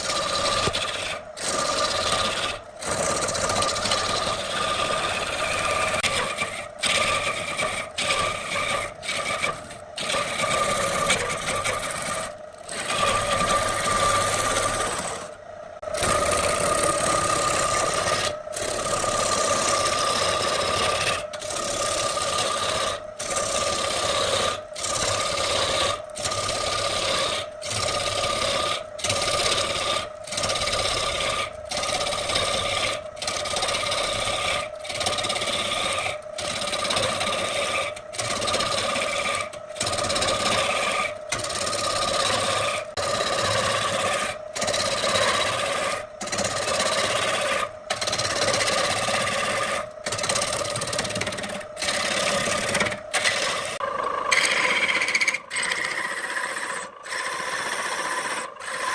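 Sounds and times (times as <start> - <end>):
wood lathe cutting rasp: 0.0 - 58.9.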